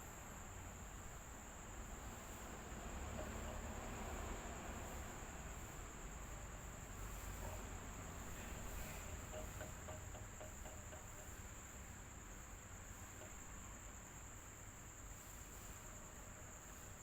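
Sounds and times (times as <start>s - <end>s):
electric fan humming and whining: 0.0s - 17.0s.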